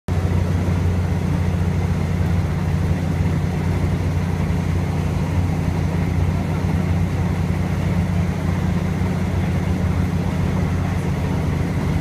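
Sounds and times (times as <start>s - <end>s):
train rumbling inside carriage: 0.1s - 12.0s.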